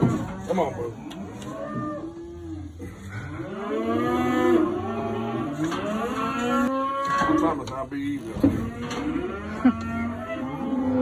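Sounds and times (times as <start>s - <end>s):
cattle mooing: 0.0s - 7.7s, 8.4s - 11.0s.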